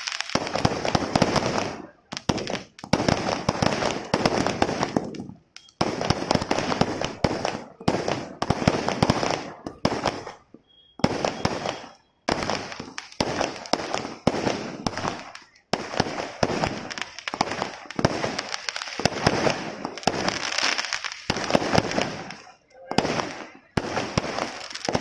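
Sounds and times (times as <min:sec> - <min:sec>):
fireworks crackling bangs: 0:00.0 - 0:25.0.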